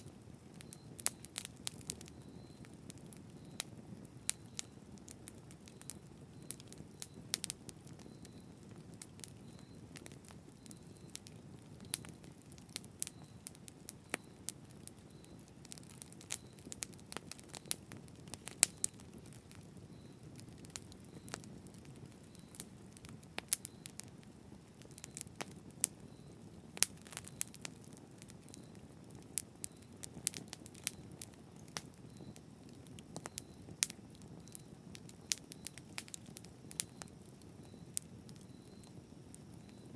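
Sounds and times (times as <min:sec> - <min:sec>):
low rush of flames: 0:00.0 - 0:39.9
wood crackling and popping: 0:00.0 - 0:39.9.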